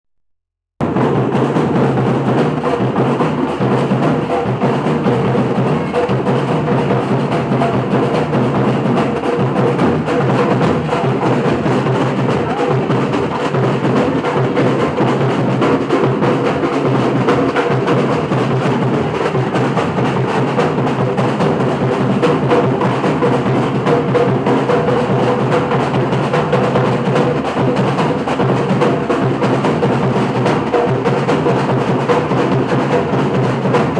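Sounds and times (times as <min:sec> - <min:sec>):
samba drums and percussion: 0:00.8 - 0:33.9.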